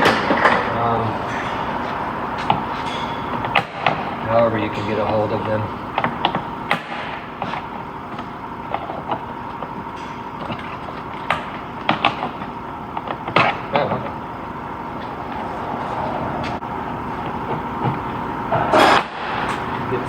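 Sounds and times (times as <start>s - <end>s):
faint constant hum: 0.0s - 20.0s.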